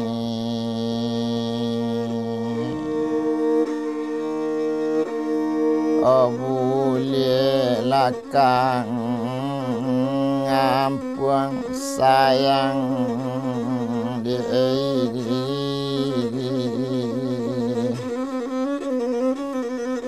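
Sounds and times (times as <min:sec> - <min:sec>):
man singing: 0:00.0 - 0:18.9
bowed fiddle long notes: 0:00.0 - 0:20.0.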